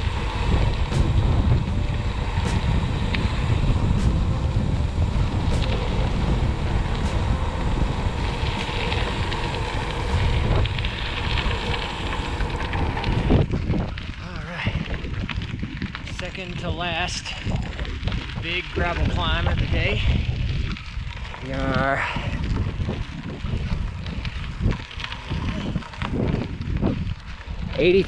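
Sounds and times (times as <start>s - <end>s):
bike tyres rolling on gravel: 0.0s - 28.0s
wind buffeting microphone: 0.0s - 28.0s.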